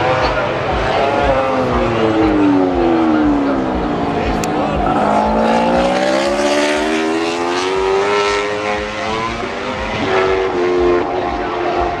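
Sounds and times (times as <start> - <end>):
racing motorcycles revving: 0.0 - 12.0.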